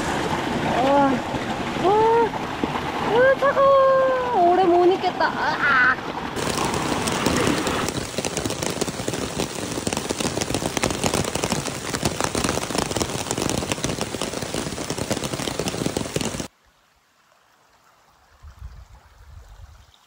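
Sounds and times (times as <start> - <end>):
rain pattering: 0.0 - 16.5.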